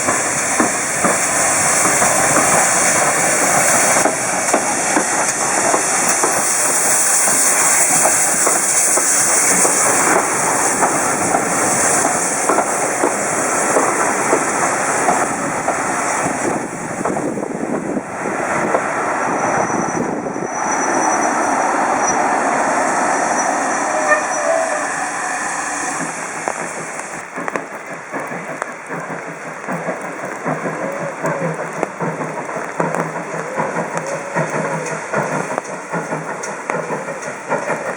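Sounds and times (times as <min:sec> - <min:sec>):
steam hissing: 0:00.0 - 0:37.9
train wheels clattering: 0:00.0 - 0:37.9.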